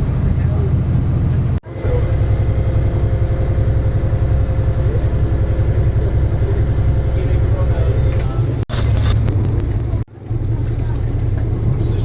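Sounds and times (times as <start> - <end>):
engine low pulsing rumble: 0.0 - 12.0.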